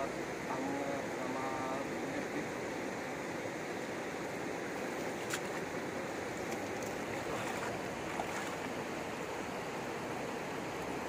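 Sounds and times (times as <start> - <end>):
fast-flowing river water: 0.0 - 11.0.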